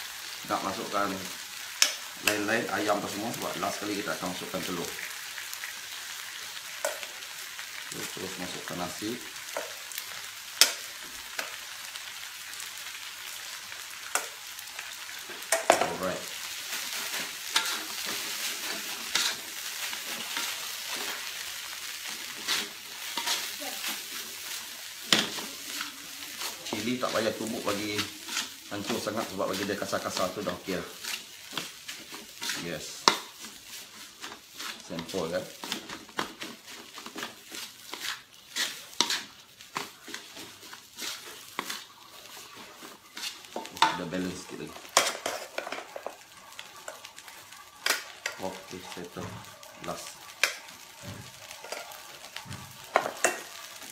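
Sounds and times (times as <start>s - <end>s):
sizzling in hot oil: 0.0s - 53.9s
wooden spatula scraping wok: 0.2s - 53.9s.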